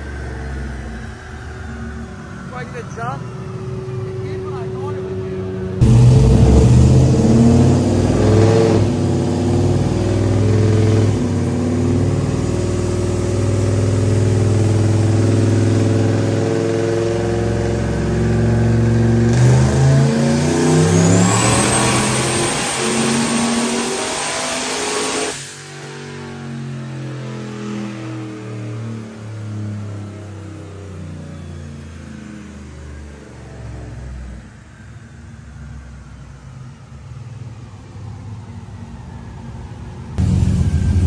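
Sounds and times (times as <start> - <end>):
engine at full throttle: 0.0 - 34.8, 40.2 - 41.0.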